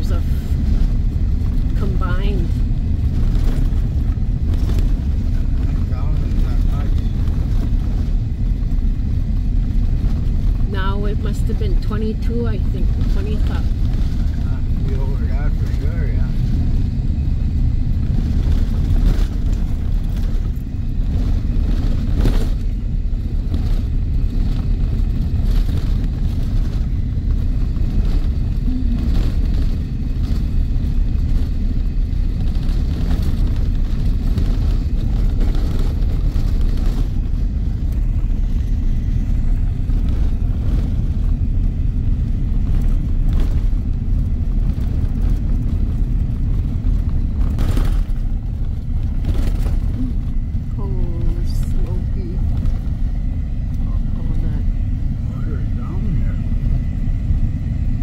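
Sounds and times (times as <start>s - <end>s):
tyre and road noise: 0.0s - 58.0s
wind noise: 0.0s - 58.0s.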